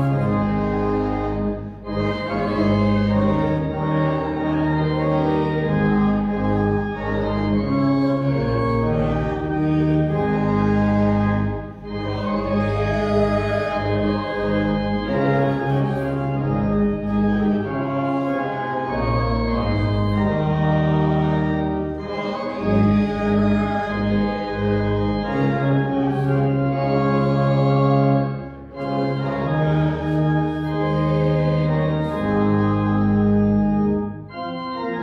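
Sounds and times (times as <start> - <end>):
church organ chords: 0.0 - 35.0.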